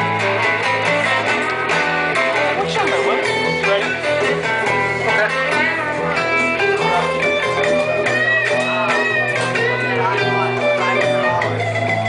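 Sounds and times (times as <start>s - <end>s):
lead electric guitar bending notes: 0.0s - 12.0s
strummed rhythm guitar: 0.0s - 12.0s.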